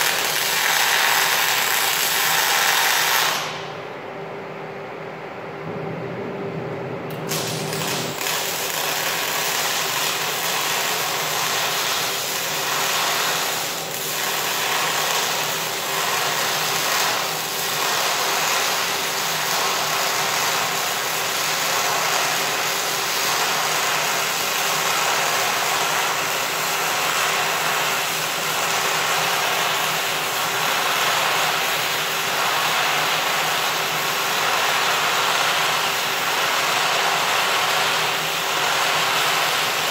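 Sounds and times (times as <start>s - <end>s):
welding arc crackling and hissing: 0.0s - 3.7s, 7.2s - 39.9s.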